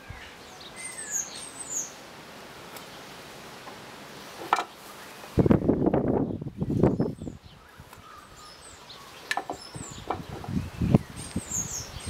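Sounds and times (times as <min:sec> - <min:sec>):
faint outdoor background: 0:00.0 - 0:12.0
songbird chirping: 0:00.0 - 0:12.0.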